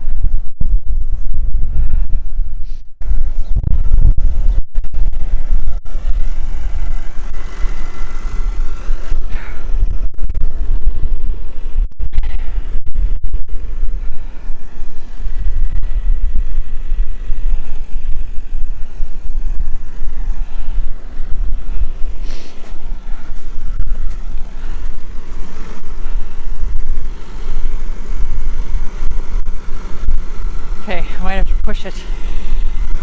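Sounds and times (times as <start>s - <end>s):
tractor engine running: 0.0s - 33.0s
wind buffeting microphone: 0.0s - 33.0s.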